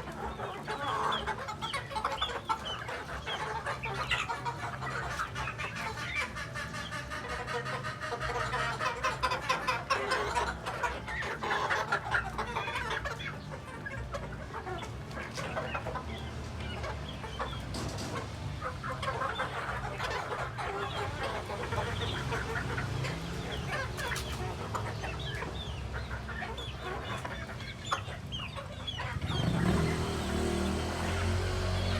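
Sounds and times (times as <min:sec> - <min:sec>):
chickens clucking: 0:00.0 - 0:31.9.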